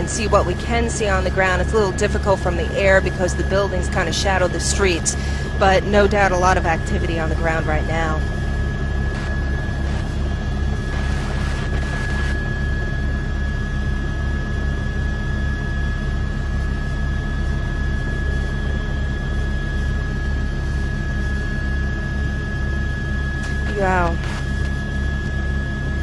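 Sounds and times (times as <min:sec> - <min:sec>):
helicopter rotor pulse: 0:00.0 - 0:26.0
turbine high whine: 0:00.0 - 0:26.0.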